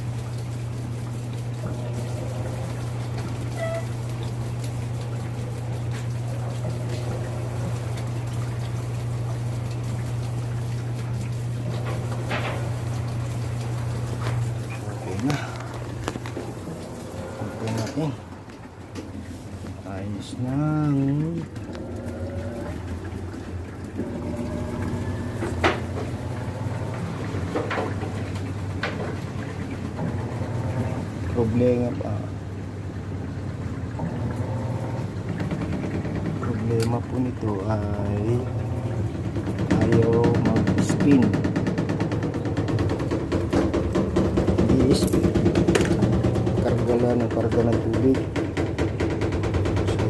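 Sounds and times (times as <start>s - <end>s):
steady low hum: 0.0s - 50.0s
water trickling into washing machine: 0.0s - 50.0s.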